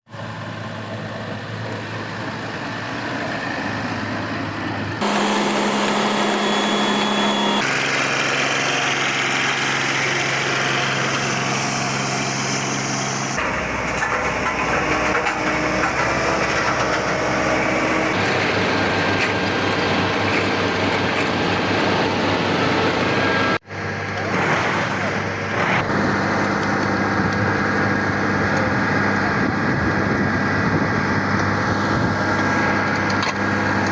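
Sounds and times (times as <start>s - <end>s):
construction machine engines running: 0.1s - 33.9s.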